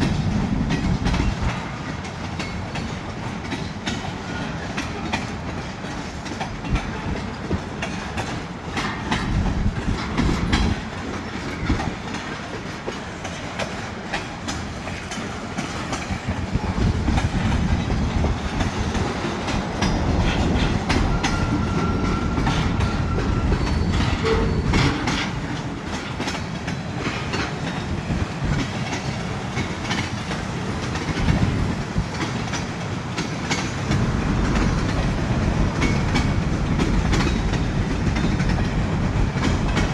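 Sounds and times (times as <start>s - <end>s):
freight train rumble: 0.0s - 39.9s
train wheels clicking over rail joints: 0.0s - 39.9s.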